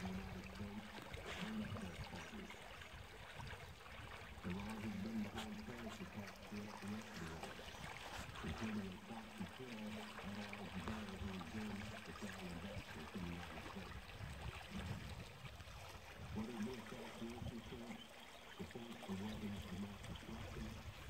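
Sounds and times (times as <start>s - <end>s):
water rushing and gurgling: 0.0s - 21.0s.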